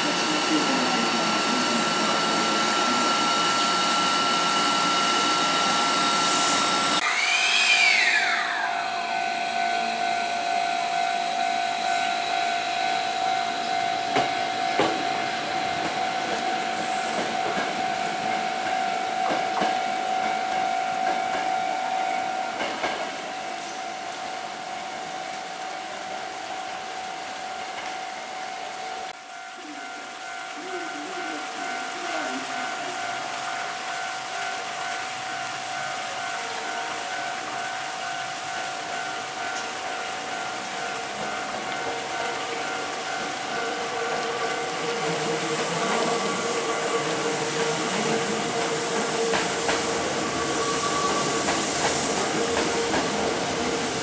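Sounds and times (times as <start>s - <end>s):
electric train whine: 0.0s - 54.0s.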